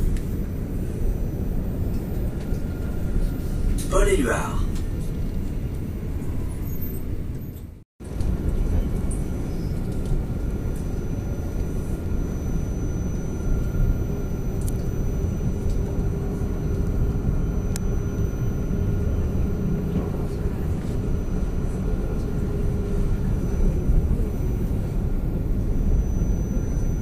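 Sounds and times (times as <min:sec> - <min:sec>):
faint steady whine: 0:00.0 - 0:27.0
tram running gear rumble: 0:00.0 - 0:27.0.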